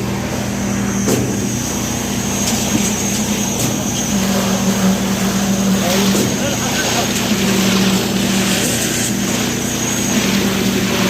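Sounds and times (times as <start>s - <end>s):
concrete pump engine drone: 0.0s - 11.0s.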